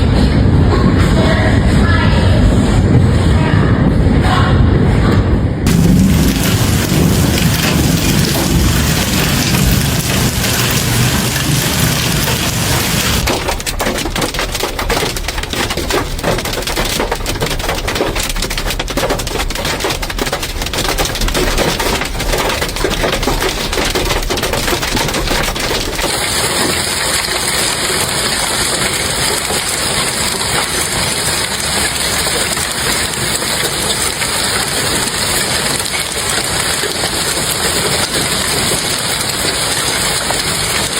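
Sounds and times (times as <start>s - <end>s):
hail and rain pounding: 5.7s - 40.9s.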